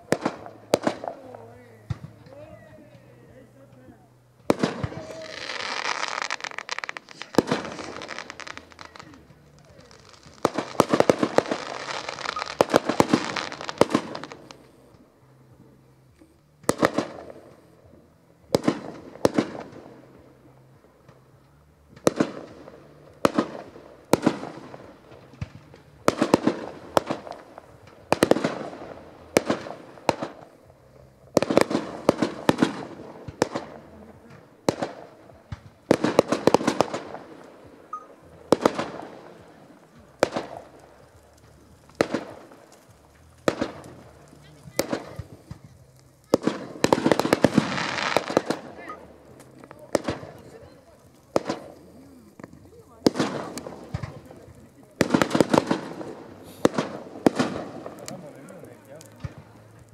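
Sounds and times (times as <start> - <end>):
firework crackling: 0.0 - 59.9
firework shells bursting: 4.4 - 15.1, 21.0 - 59.9.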